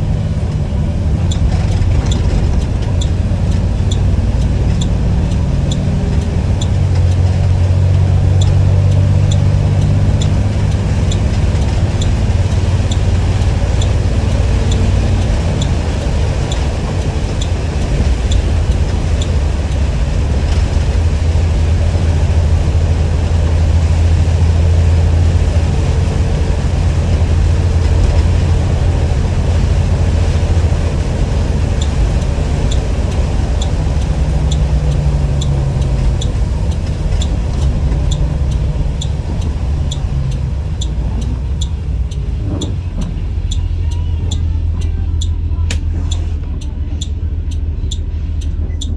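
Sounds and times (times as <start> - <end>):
bus engine droning: 0.0 - 48.9
light regular ticking: 0.0 - 48.9.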